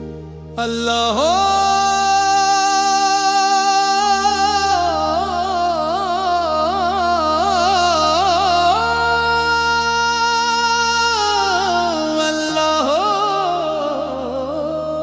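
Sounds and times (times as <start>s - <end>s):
devotional melodic line: 0.0s - 15.0s
steady low drone: 0.0s - 15.0s.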